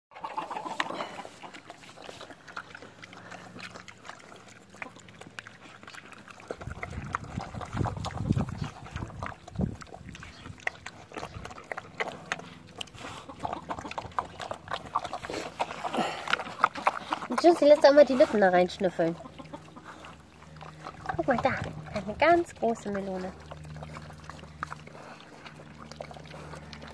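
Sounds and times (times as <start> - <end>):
pigs chewing and slurping: 0.1 - 26.9.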